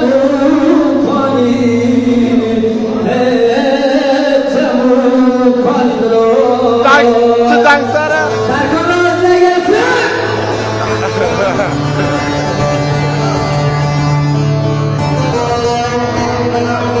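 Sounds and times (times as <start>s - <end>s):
man singing through loudspeakers: 0.0s - 12.1s, 15.2s - 17.0s.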